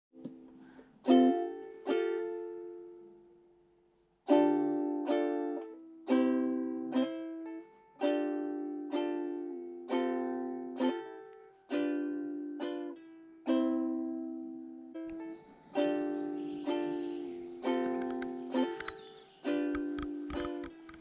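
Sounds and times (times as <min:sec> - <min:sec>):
ukulele strumming chords: 0:00.1 - 0:21.0.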